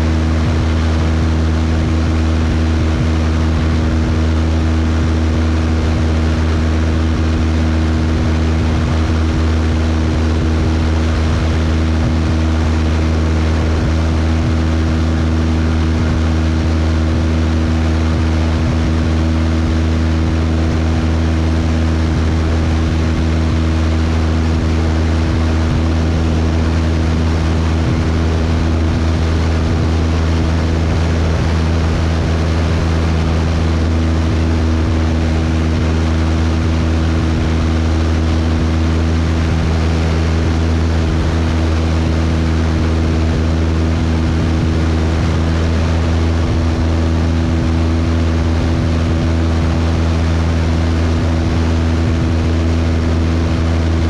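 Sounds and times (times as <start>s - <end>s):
airflow rush: 0.0s - 54.0s
propeller plane engine droning: 0.0s - 54.0s.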